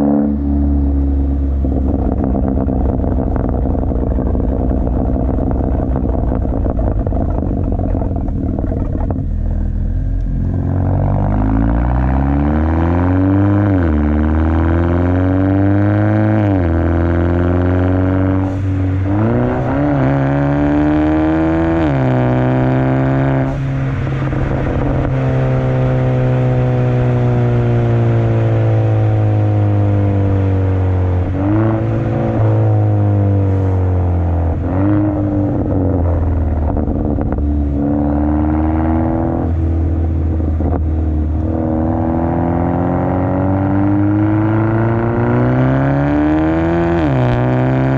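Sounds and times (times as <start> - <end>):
car engine revving: 0.0 - 47.9.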